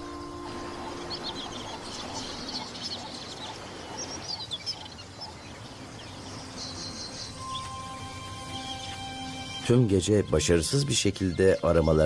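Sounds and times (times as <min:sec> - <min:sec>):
small birds chirping: 0:00.0 - 0:10.0, 0:10.8 - 0:12.0
steady background hiss: 0:00.0 - 0:12.0.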